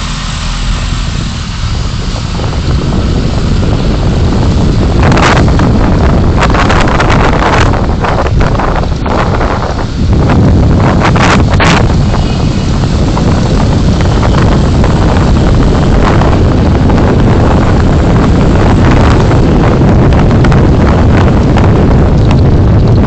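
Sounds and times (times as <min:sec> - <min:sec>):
car road and wind rumble: 0:00.0 - 0:23.0.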